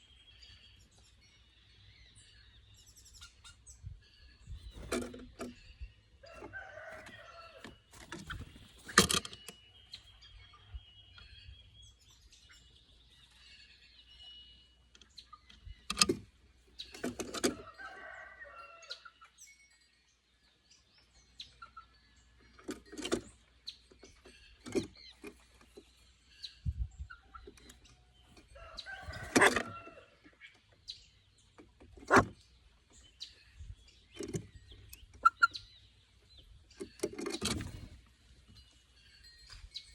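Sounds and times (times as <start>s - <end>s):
birds calling: 0.0s - 18.2s, 21.1s - 39.9s.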